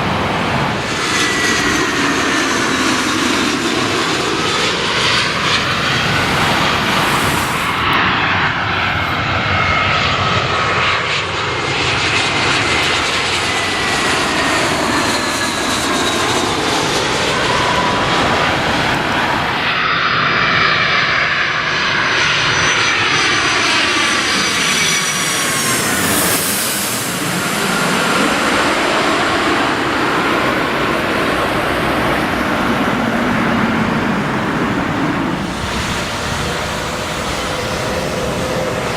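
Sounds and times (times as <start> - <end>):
jet airliners passing overhead: 0.0 - 38.9.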